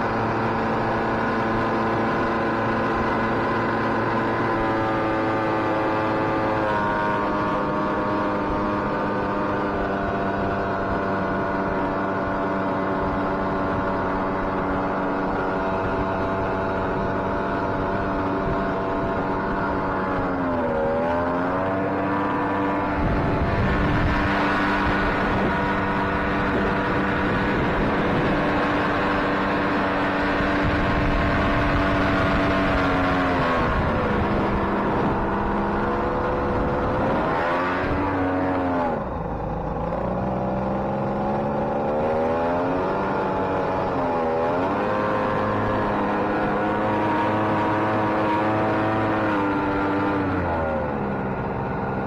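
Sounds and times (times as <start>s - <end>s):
boat engine running: 0.0s - 52.0s
water rushing along hull: 0.0s - 52.0s.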